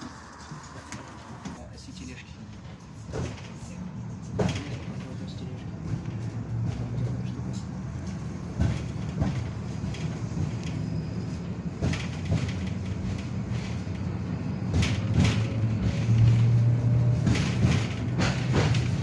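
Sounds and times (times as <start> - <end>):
tram running hum: 0.0 - 19.0
knocks and clatter: 2.4 - 19.0.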